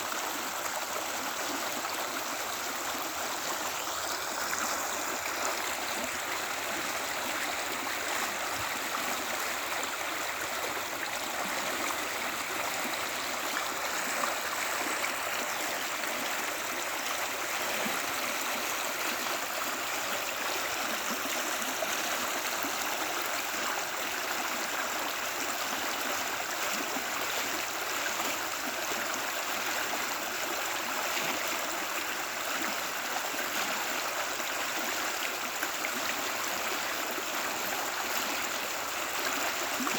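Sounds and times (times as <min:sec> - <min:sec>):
creek water over rocks: 0:00.0 - 0:39.9.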